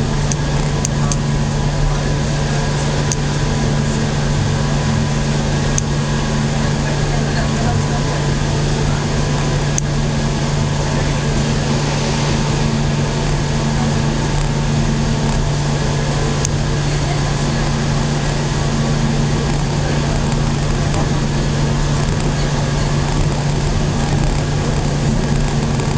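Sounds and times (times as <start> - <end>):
low steady hum: 0.0 - 25.9
train wheels rumbling on rail: 0.0 - 25.9.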